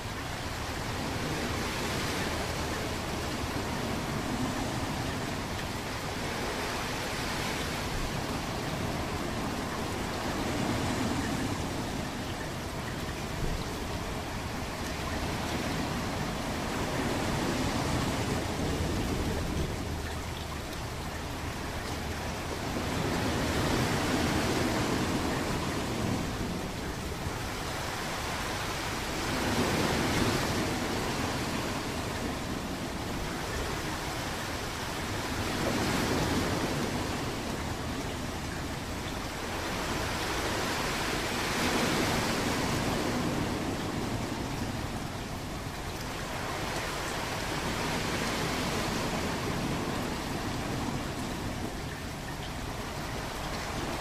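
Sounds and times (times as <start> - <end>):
waves washing ashore: 0.0 - 54.0.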